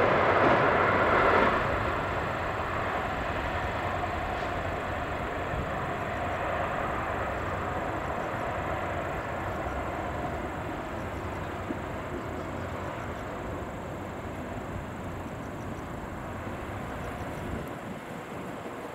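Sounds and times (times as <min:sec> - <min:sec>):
electric train passing: 0:00.0 - 0:18.9.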